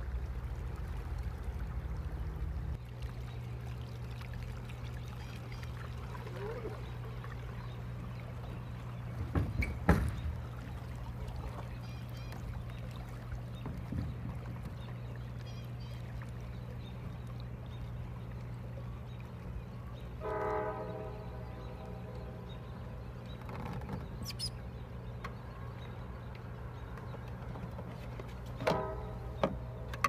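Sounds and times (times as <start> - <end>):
water lapping and trickling: 0.0 - 30.0.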